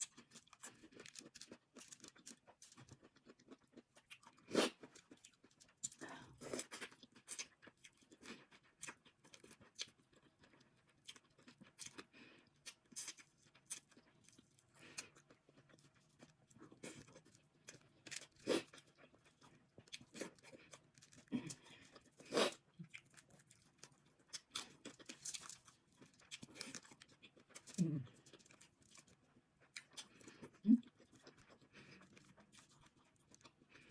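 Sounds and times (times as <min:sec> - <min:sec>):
person chewing and smacking: 0:00.0 - 0:33.9.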